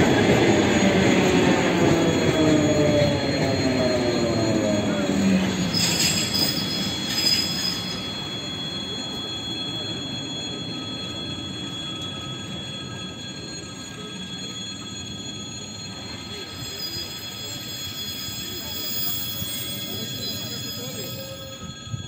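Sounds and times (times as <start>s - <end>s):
high whining tones: 0.0s - 22.0s
train wheel rumble: 0.0s - 22.0s
wheel squeal: 0.0s - 22.0s.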